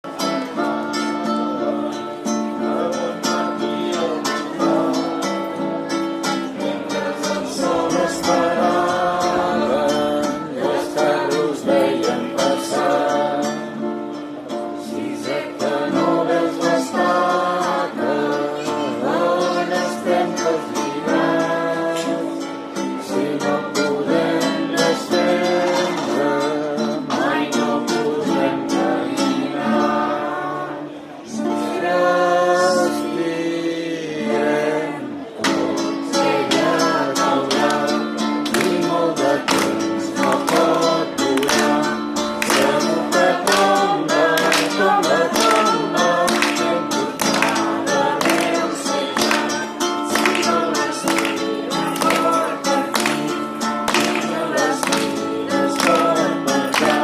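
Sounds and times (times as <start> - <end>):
strummed acoustic guitar: 0.0 - 57.0
person singing: 1.2 - 57.0.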